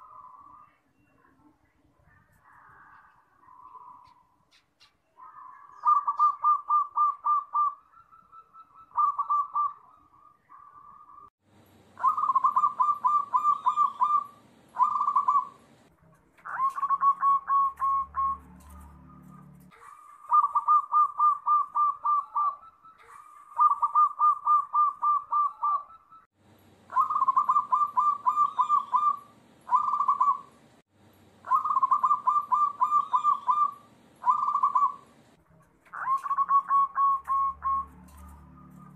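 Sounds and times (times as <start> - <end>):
doves cooing: 2.3 - 11.3, 12.0 - 15.8, 16.4 - 26.2, 26.9 - 30.6, 31.4 - 35.2, 35.9 - 38.9.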